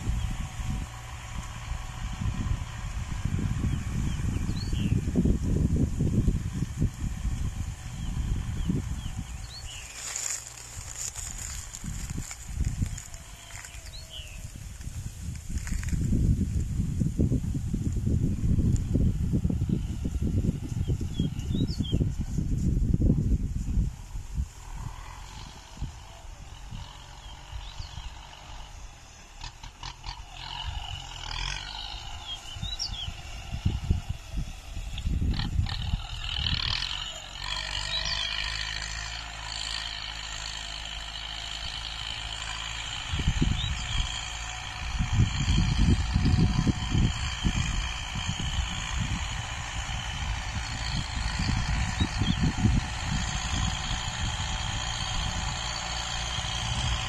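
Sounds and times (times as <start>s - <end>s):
distant tractor engine: 0.0s - 57.0s
wind buffeting microphone: 0.0s - 57.0s.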